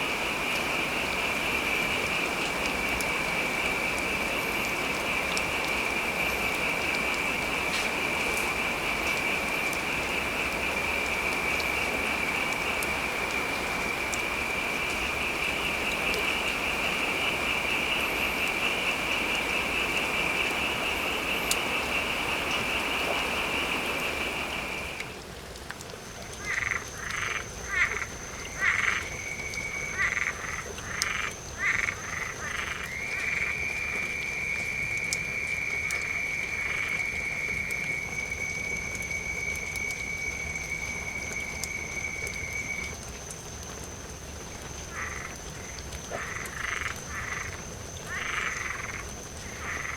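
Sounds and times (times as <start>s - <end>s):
frogs trilling: 0.0s - 25.2s, 26.3s - 49.9s
steady rain hiss: 0.0s - 49.9s.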